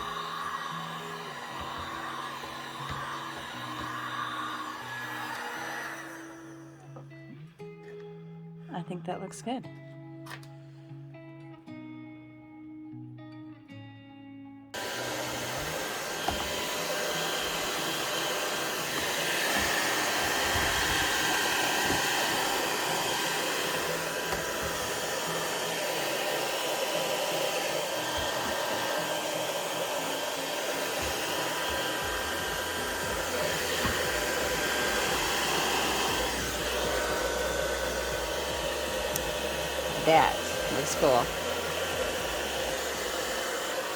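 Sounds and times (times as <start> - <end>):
heat gun blowing: 0.0 - 6.7, 14.8 - 43.9.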